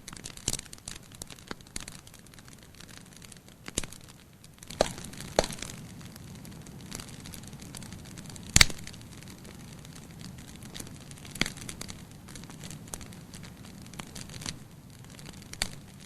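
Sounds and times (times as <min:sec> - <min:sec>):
campfire crackling and popping: 0:00.0 - 0:16.0
low steady fire hiss: 0:00.0 - 0:16.0.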